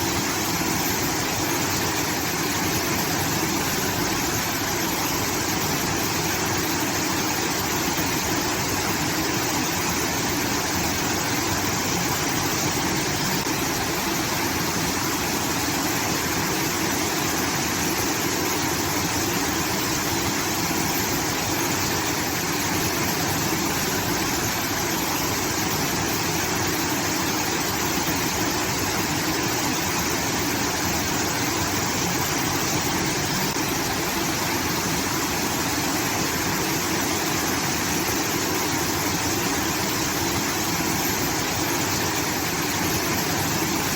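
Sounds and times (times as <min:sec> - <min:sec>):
water rushing from outlet: 0:00.0 - 0:43.9.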